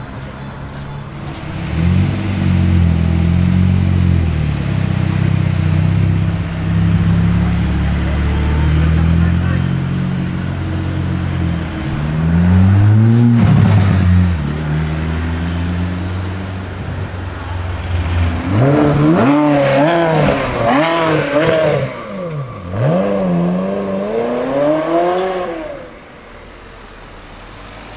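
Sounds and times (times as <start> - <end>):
sports car engine revving: 0.2 - 26.0.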